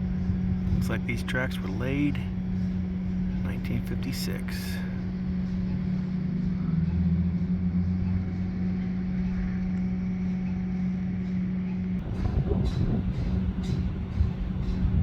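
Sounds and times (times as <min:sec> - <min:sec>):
deep rumble: 0:00.0 - 0:15.0
vehicle engine humming: 0:00.0 - 0:15.0.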